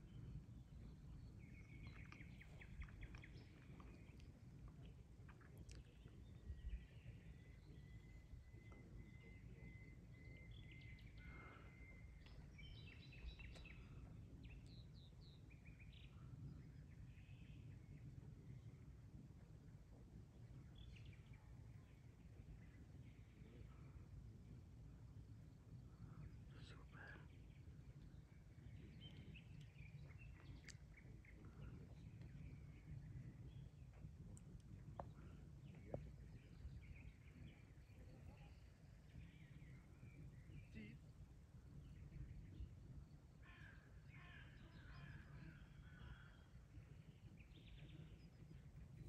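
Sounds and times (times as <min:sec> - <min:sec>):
faint bird chirps: 0:00.0 - 0:19.2, 0:20.1 - 0:49.0
low wind rumble: 0:00.0 - 0:49.0.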